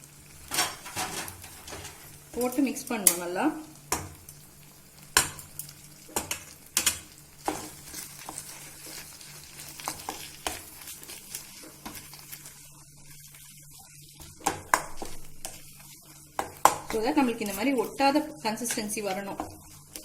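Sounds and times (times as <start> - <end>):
soft sizzle of ghee: 0.0 - 20.0
spatula scraping a pan: 0.3 - 2.6, 5.2 - 20.0.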